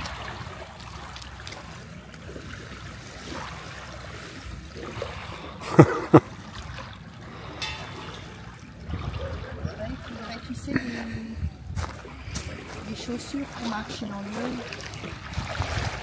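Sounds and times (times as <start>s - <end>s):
water lapping at shore: 0.0s - 16.0s.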